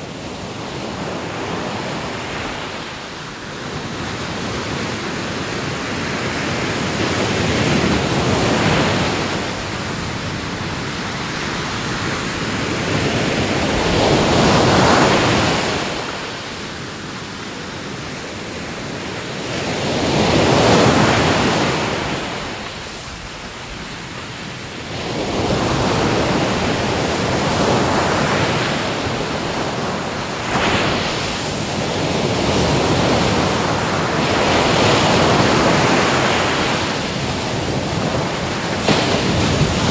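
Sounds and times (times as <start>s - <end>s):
ocean waves surging: 0.0s - 39.9s.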